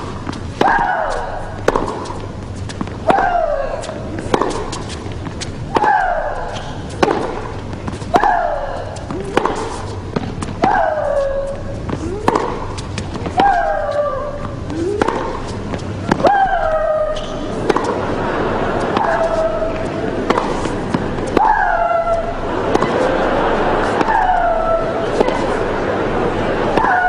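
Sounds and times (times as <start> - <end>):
racket hitting tennis ball: 0.0 - 27.0.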